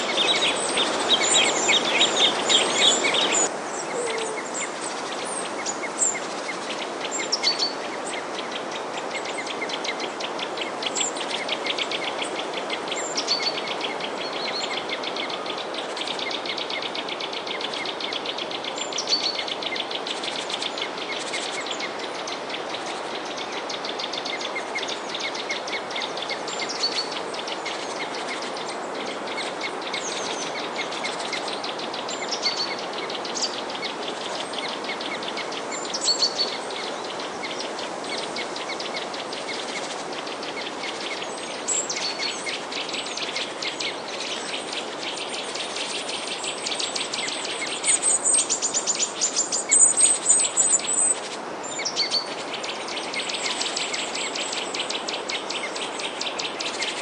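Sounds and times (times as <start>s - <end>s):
songbirds chirping: 0.0s - 57.0s
steady background hiss: 0.0s - 57.0s.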